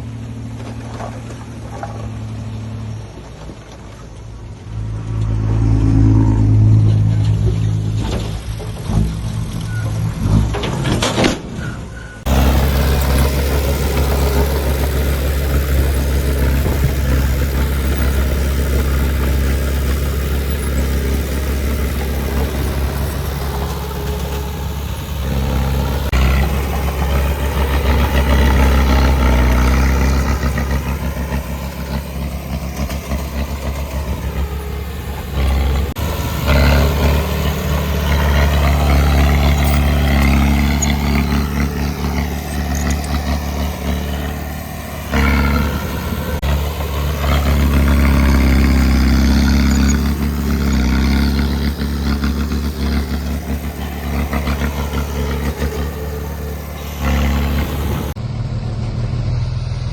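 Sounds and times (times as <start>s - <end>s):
diesel engine running: 0.0s - 59.9s
deep engine drone: 4.5s - 10.7s, 12.2s - 59.9s.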